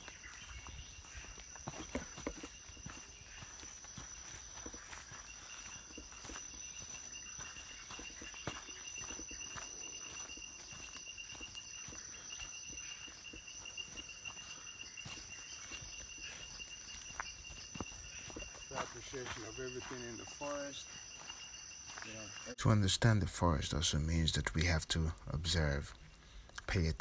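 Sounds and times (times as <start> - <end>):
footsteps on leaf litter: 0.0 - 22.6
insect pulsing trill: 0.0 - 22.6.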